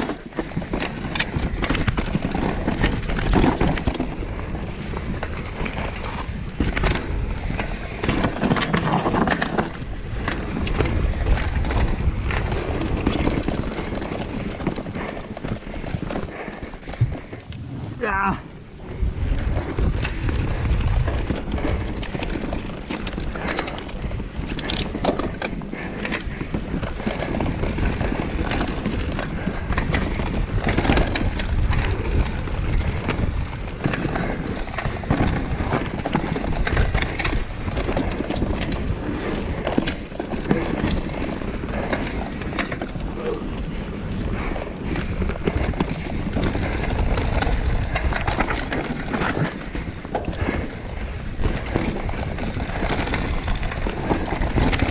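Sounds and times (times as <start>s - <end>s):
bike clattering and knocking: 0.0s - 17.5s, 19.4s - 54.9s
bike tyres on rough ground: 0.0s - 54.9s.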